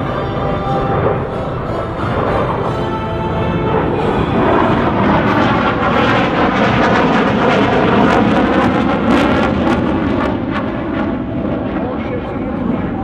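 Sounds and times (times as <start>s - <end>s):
fighter jets flying past: 0.0s - 13.0s.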